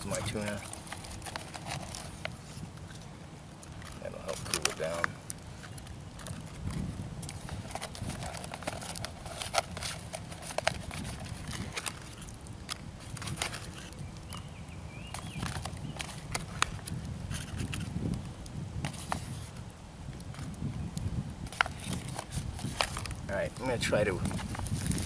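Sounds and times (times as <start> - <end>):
foil pouch crinkling: 0.0 - 14.5, 15.1 - 18.2, 18.8 - 19.6, 21.4 - 25.0
campfire crackling and popping: 0.0 - 25.0.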